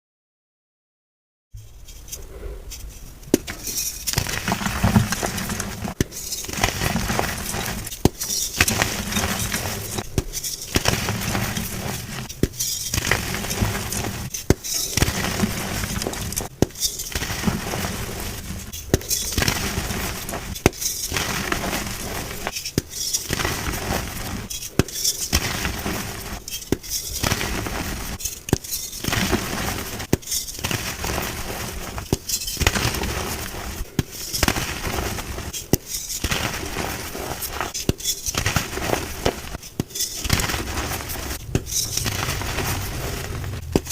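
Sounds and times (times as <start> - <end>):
chalk blocks crunching: 2.7 - 43.9.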